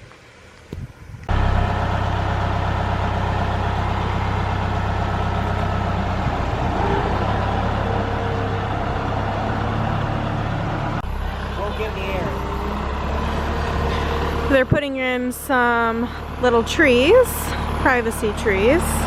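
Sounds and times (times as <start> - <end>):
engine droning: 1.3 - 19.0.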